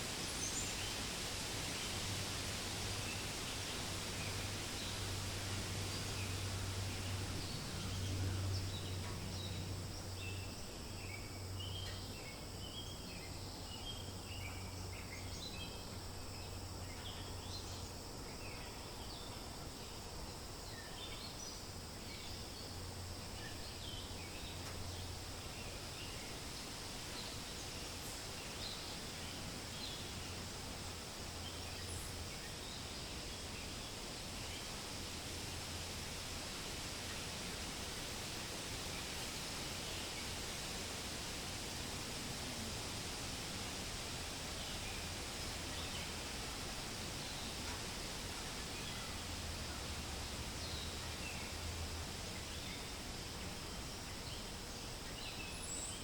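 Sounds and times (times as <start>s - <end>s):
wind rustling leaves: 0.0s - 56.0s.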